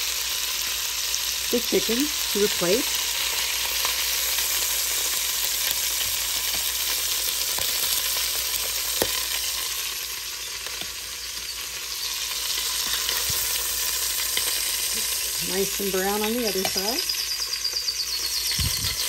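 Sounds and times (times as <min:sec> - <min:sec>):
meat sizzling in oil: 0:00.0 - 0:19.0.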